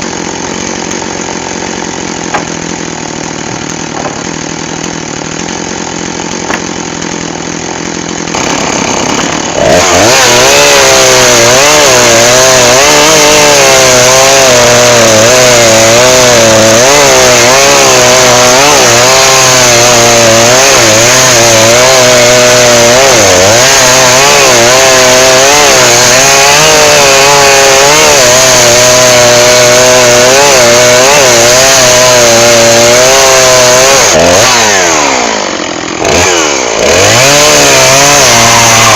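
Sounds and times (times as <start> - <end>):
chainsaw sawing firewood: 0.0 - 38.9.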